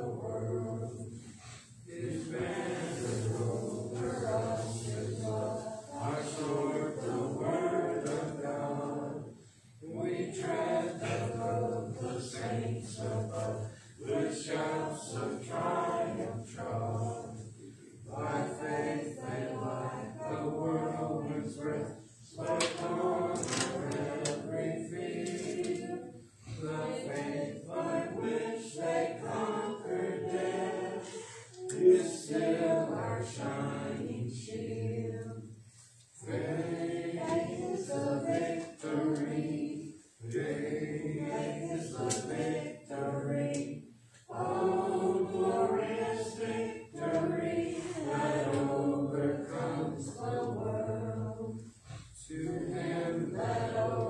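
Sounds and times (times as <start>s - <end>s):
congregation singing a hymn: 0.0s - 54.0s.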